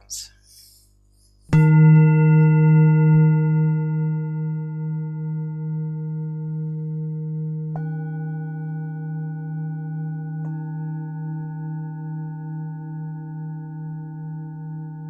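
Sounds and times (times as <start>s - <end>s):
singing bowl ringing: 1.5s - 15.0s
singing bowl strike: 1.5s - 15.0s.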